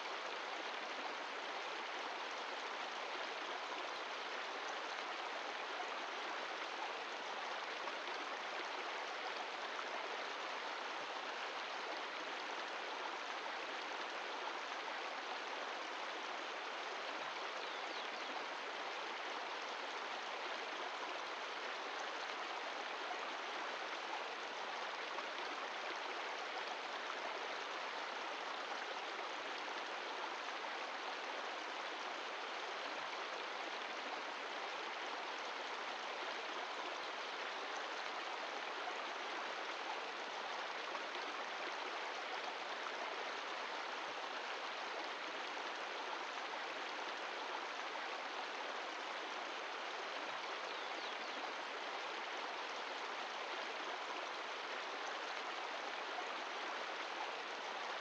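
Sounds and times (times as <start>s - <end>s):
mountain stream rushing: 0.0s - 58.0s.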